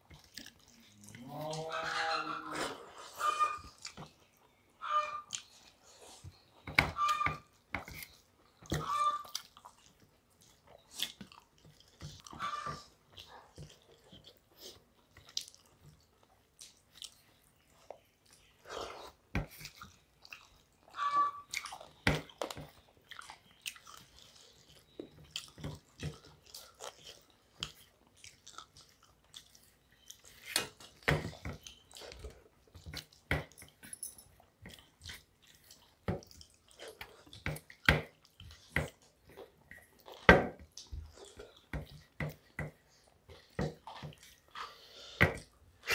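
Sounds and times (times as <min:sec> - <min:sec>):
people chewing: 0:00.0 - 0:45.9.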